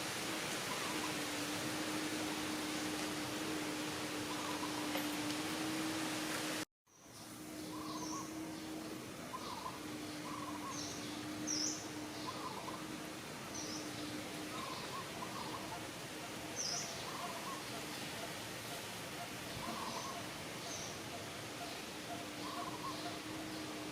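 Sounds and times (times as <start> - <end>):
birds chirping: 0.0 - 23.9
low steady hum: 0.0 - 23.9
outdoor hiss: 0.0 - 23.9.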